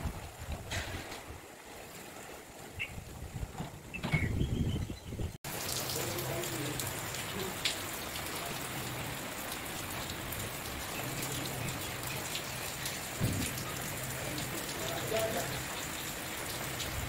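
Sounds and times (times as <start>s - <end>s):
rain falling on leaves: 0.0s - 3.6s, 5.4s - 17.0s.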